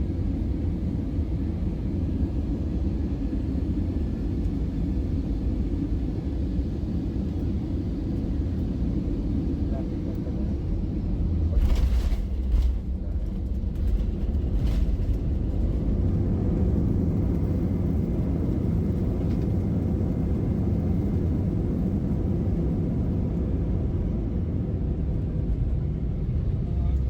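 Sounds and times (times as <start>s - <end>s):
low rumble in aircraft cabin: 0.0s - 27.0s.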